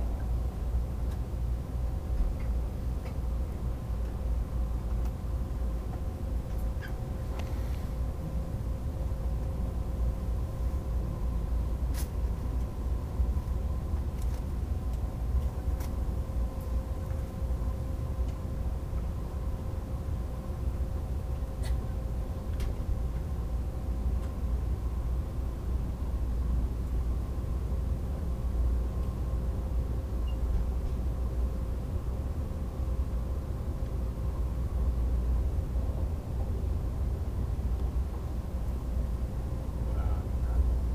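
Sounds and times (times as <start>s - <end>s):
faint steady hum: 0.0s - 40.9s
train cabin low rumble: 0.0s - 40.9s.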